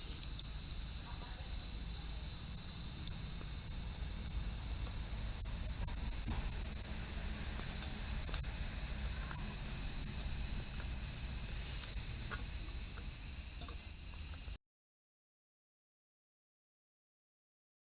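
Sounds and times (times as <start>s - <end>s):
insects trilling: 0.0s - 14.6s.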